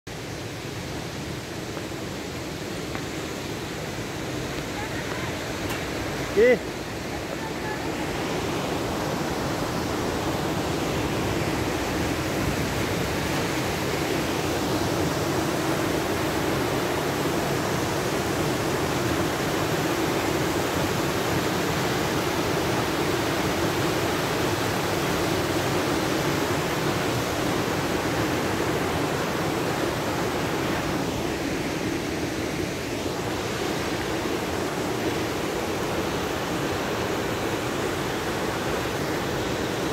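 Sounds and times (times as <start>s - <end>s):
mountain stream and waterfall rushing: 0.1s - 39.9s.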